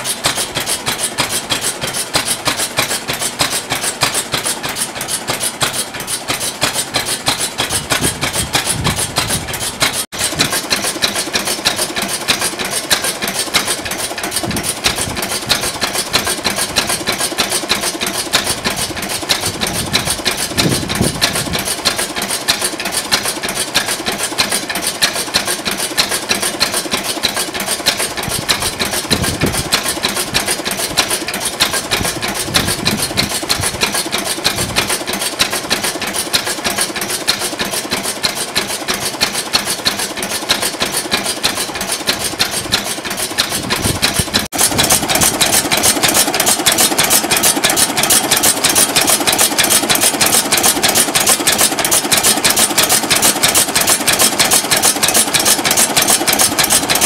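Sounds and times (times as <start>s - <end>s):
oil engine clattering: 0.0s - 57.0s.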